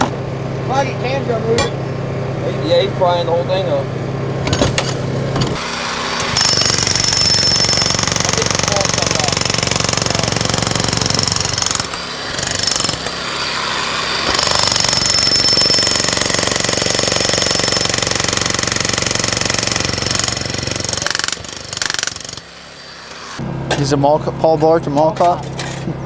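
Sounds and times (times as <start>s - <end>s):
jackhammer hammering: 0.0s - 1.9s, 4.4s - 25.8s.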